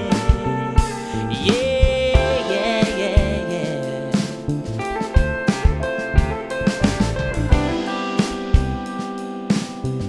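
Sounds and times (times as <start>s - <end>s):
drum kit: 0.0s - 10.0s
electric guitar chords: 0.0s - 10.0s
sharp drum hits: 1.8s - 10.0s.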